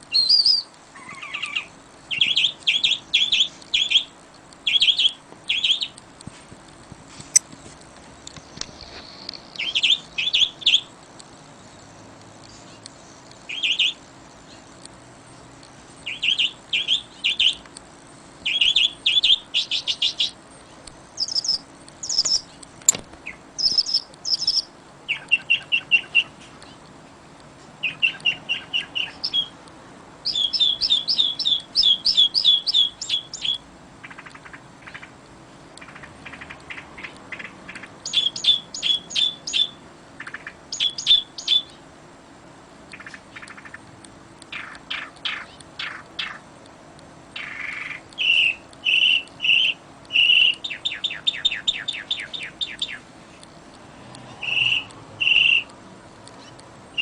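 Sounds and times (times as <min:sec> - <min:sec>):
birds chirping: 0:00.0 - 0:57.0
faint steady hiss: 0:00.0 - 0:57.0.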